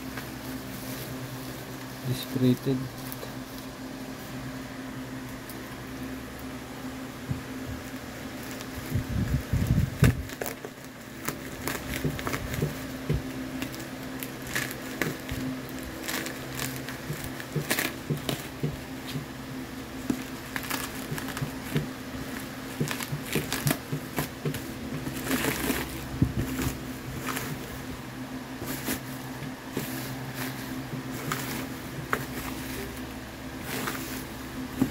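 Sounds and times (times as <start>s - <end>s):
plastic crinkling and rustling: 0.0s - 3.8s, 7.8s - 19.3s, 20.0s - 34.9s
steady low hum: 0.0s - 34.9s.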